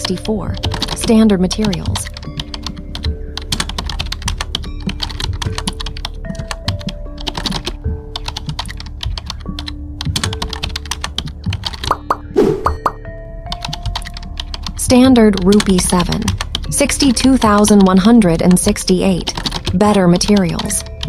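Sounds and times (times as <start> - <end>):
rapid irregular clicking: 0.0 - 12.0, 13.5 - 16.7, 19.2 - 21.0
background music with held notes: 0.0 - 21.0.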